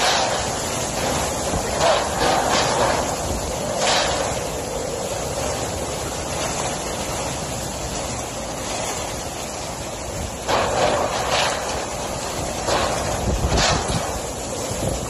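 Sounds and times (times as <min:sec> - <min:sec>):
strong wind gusting through trees: 0:00.0 - 0:15.0
wind buffeting microphone: 0:00.0 - 0:15.0.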